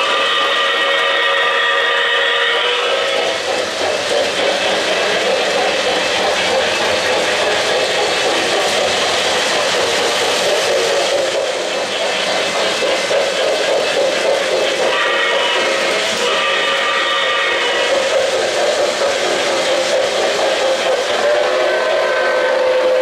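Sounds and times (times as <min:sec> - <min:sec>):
model train wheels rolling on rails: 0:00.0 - 0:23.0.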